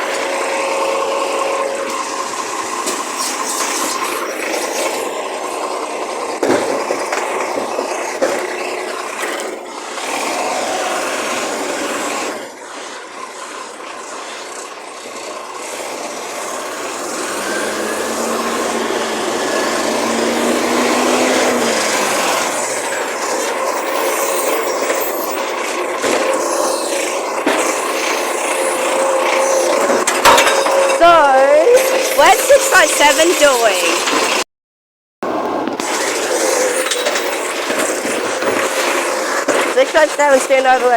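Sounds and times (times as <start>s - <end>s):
garbage truck engine drone: 0.0s - 34.4s, 35.2s - 40.9s.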